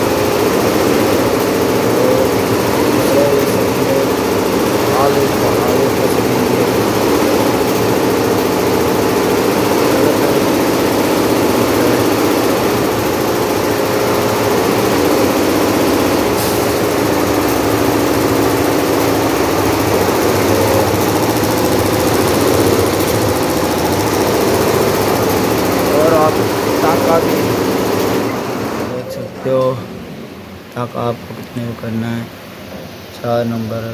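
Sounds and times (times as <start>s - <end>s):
embroidery machine rapid clatter: 0.0s - 29.1s.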